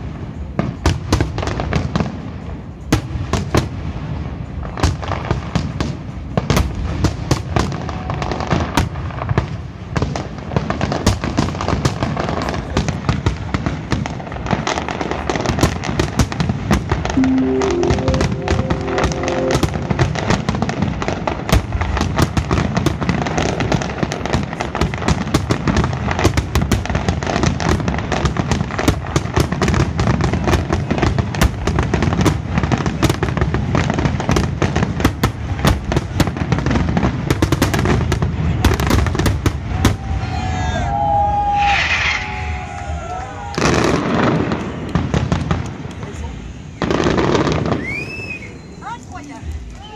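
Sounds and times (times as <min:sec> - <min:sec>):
fireworks bangs and crackles: 0:00.0 - 0:18.5, 0:20.3 - 0:49.9.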